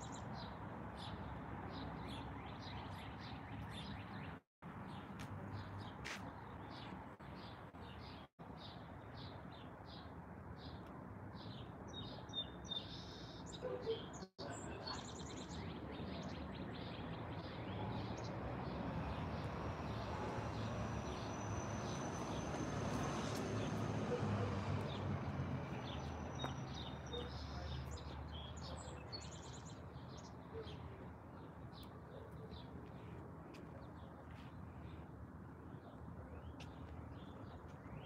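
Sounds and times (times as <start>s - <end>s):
birds chirping: 0.0s - 10.8s, 11.4s - 38.0s.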